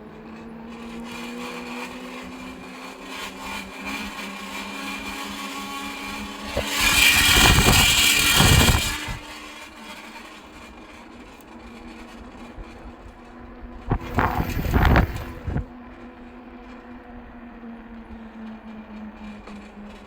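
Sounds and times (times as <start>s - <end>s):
electric bike motor humming: 0.0s - 20.0s.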